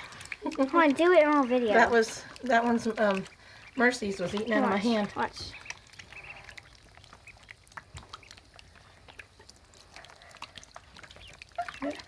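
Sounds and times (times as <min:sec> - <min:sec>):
ducklings peeping: 0:00.0 - 0:12.0.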